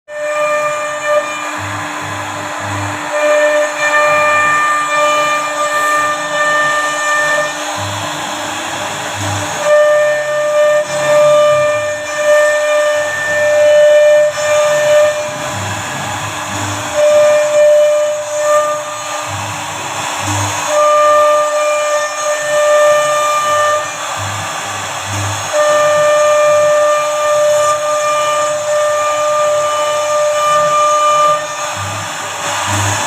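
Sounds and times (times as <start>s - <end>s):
cutting hiss: 0.1s - 33.0s
router spindle whining: 0.1s - 33.0s.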